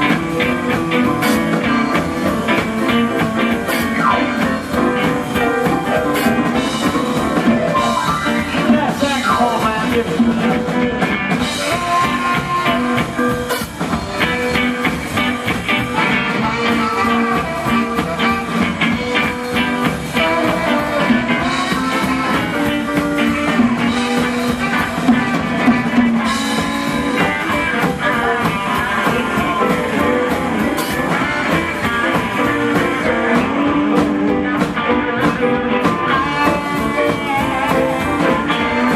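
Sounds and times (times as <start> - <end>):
drum kit beat: 0.0 - 38.9
electric guitar: 0.0 - 38.9.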